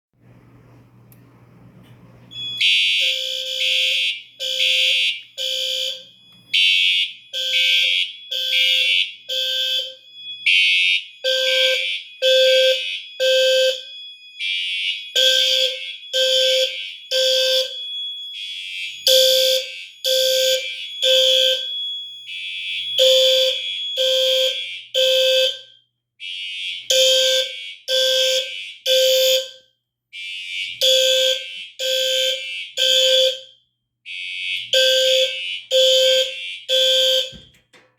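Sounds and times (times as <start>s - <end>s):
higher-pitched alarm horn: 2.3s - 29.6s, 30.2s - 33.5s, 34.1s - 37.5s
fire alarm horn pulses: 2.3s - 37.6s.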